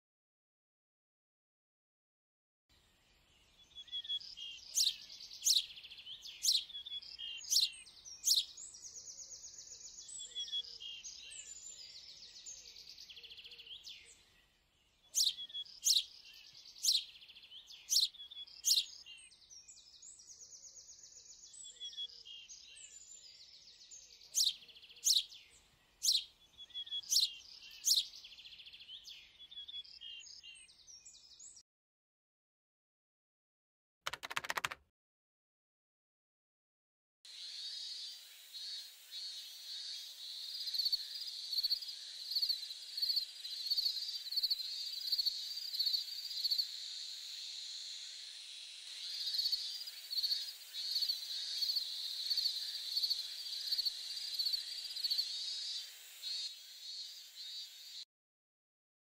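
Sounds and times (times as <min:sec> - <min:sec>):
birds chirping and trilling: 0:02.8 - 0:31.6, 0:37.3 - 0:58.1.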